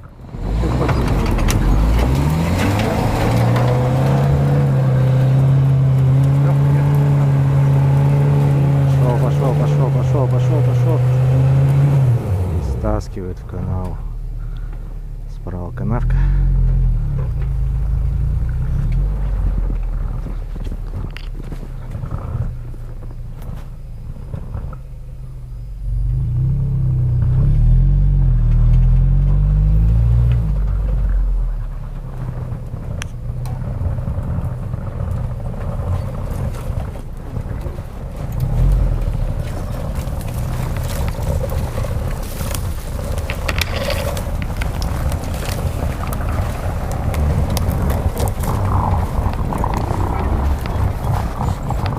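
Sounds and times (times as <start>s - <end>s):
suv engine revving: 0.0s - 51.9s.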